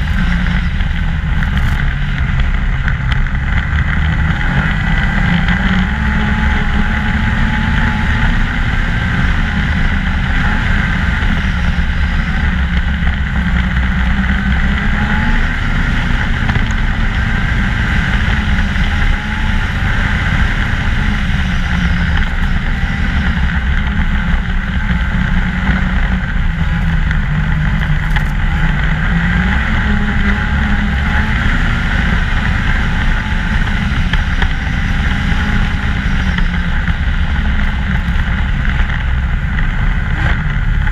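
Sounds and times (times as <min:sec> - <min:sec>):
snowmobile engine droning: 0:00.0 - 0:40.9.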